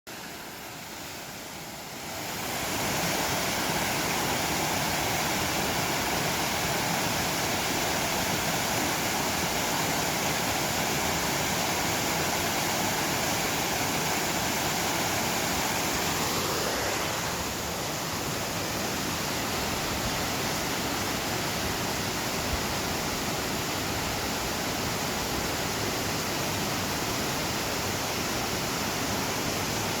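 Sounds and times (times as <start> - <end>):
stream rushing: 0.1 - 30.0.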